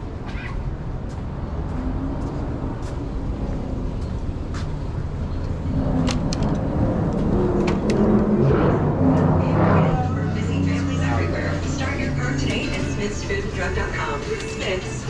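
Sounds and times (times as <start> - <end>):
indoor store sound: 0.0 - 15.0
road traffic rumble: 0.0 - 15.0.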